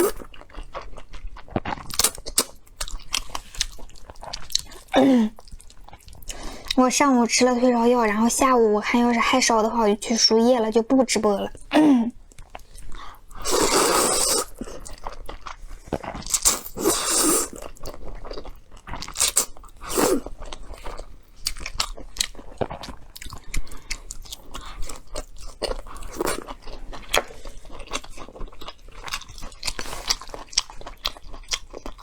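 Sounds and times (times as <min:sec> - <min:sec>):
person biting and chewing food: 0:00.0 - 0:06.4, 0:12.4 - 0:32.0.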